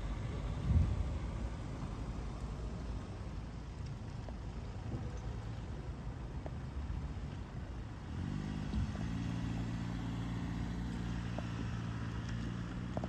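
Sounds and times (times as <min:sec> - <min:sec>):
car engine driving slowly: 0:00.0 - 0:13.0.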